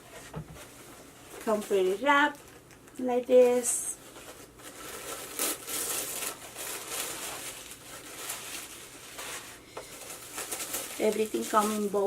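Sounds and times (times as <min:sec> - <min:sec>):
packaging wrap crinkling: 0:01.2 - 0:12.0.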